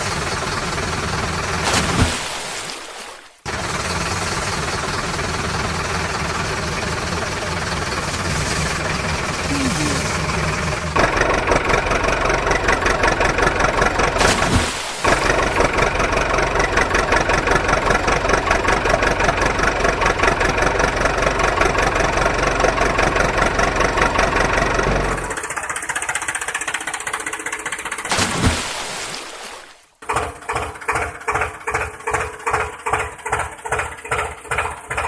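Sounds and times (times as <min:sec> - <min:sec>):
engine chugging: 0:00.0 - 0:02.0, 0:03.4 - 0:14.4, 0:15.0 - 0:28.1, 0:30.0 - 0:35.0.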